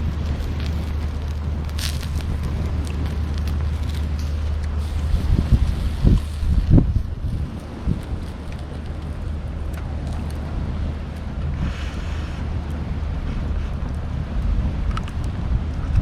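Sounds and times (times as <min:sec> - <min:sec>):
faint clicks and crackles: 0:00.0 - 0:16.0
wind buffeting microphone: 0:00.0 - 0:16.0.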